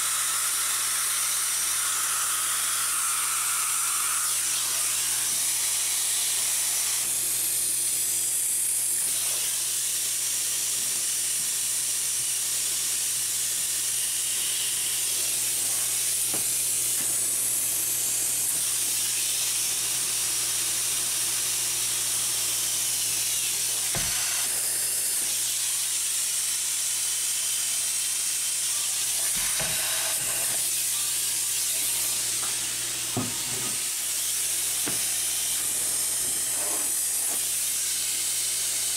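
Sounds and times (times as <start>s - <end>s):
spray foam gun hissing: 0.0s - 38.9s.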